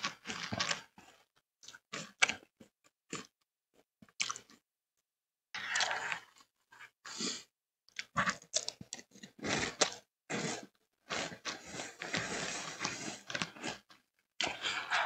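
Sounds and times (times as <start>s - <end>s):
chewing and crunching cereal: 0.0s - 3.4s, 4.0s - 4.6s, 5.6s - 15.0s.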